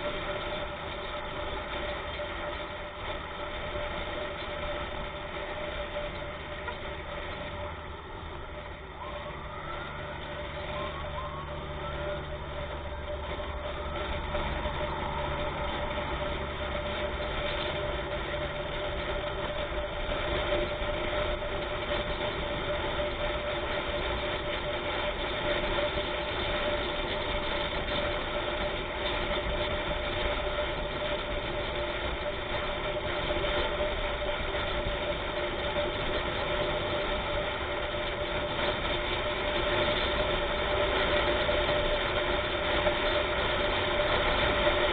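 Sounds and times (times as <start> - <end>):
road noise: 0.0 - 44.9
vehicle engine droning: 0.0 - 44.9.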